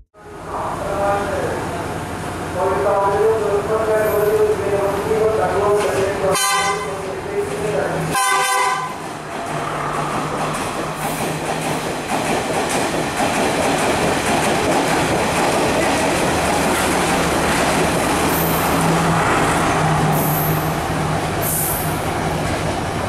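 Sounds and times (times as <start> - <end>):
train wheels rushing on rails: 0.8 - 23.0.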